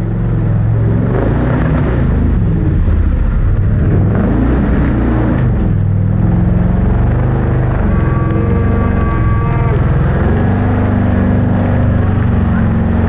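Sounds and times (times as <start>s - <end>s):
buggy engine at full throttle: 0.0s - 13.0s.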